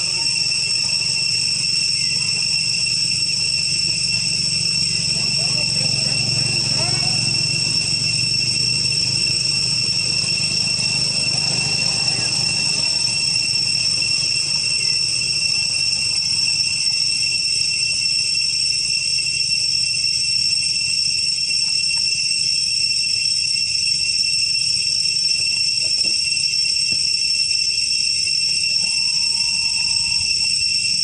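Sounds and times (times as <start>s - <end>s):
cicadas droning: 0.0s - 31.0s.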